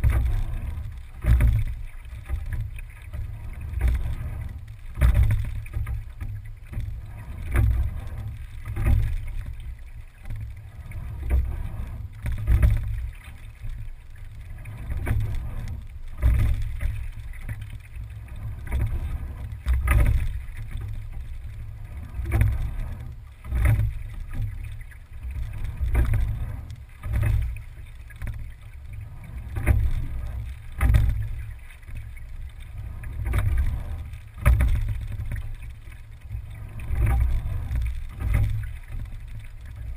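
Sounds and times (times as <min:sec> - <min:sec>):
constant low rumble: 0:00.0 - 0:39.9
oar stroke knock and water rush: 0:00.0 - 0:39.9.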